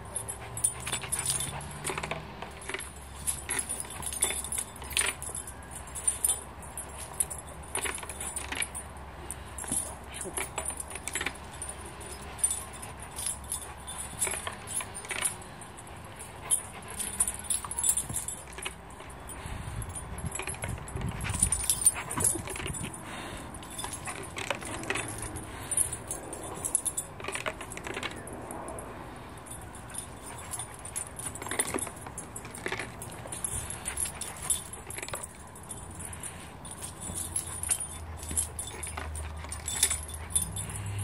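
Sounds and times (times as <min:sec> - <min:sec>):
dog collar tags jingling: 0:00.0 - 0:41.0
light clinks: 0:00.0 - 0:41.0.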